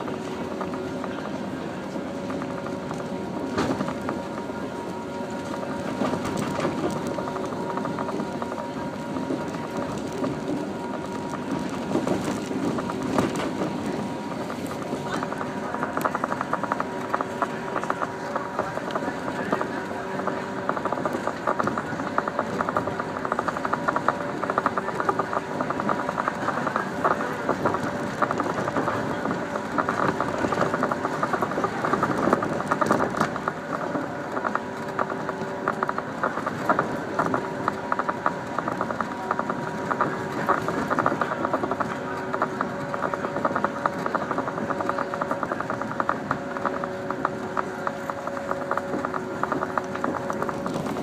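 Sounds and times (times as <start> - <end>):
train rattling and clattering: 0.0 - 51.0.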